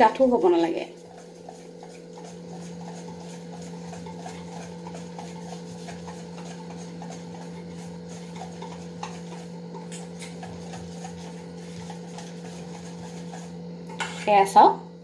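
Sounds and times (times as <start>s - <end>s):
whisk scraping metal bowl: 0.0s - 14.7s.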